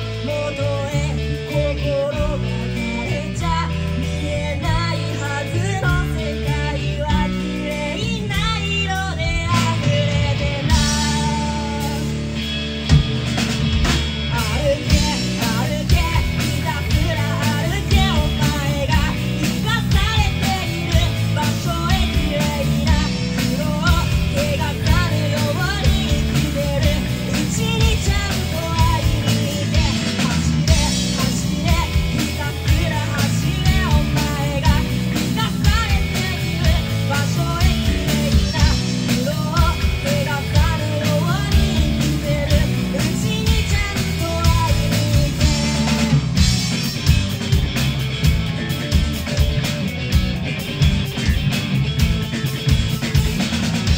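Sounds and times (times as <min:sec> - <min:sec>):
drum kit: 0:00.0 - 0:53.9
electric bass: 0:00.0 - 0:53.9
electric guitar: 0:00.0 - 0:53.9.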